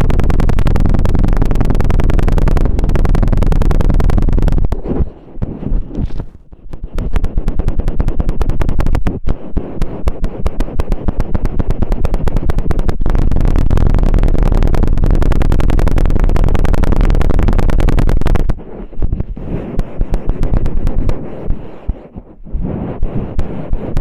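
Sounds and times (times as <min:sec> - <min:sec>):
stick scraping microphone: 0:00.0 - 0:24.0.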